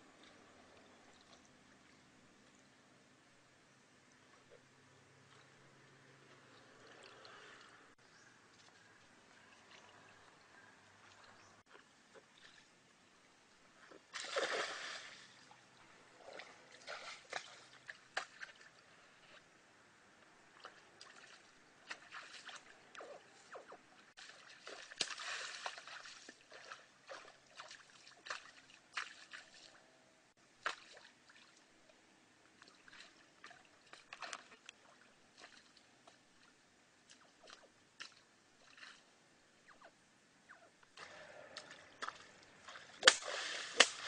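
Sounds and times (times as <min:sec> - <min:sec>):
water splashing and sloshing: 0:04.1 - 0:39.9, 0:40.9 - 0:44.0.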